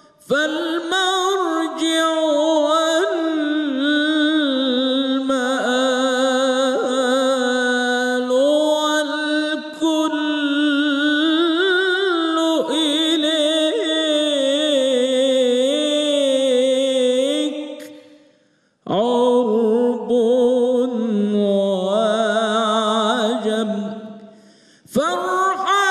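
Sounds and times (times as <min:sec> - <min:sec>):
man singing devotional chant: 0:00.0 - 0:18.2, 0:18.8 - 0:25.9.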